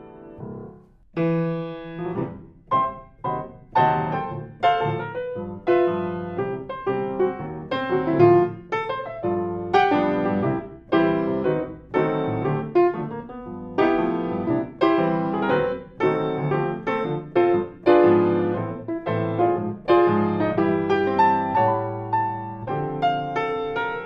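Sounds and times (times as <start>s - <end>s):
piano chords ringing: 0.0s - 24.0s.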